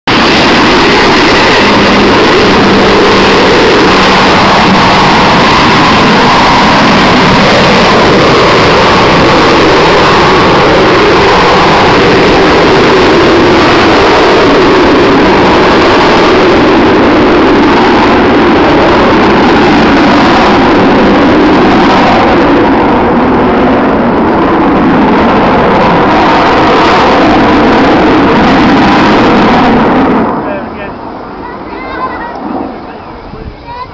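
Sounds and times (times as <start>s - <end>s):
jet bomber flying overhead: 0.0s - 33.9s.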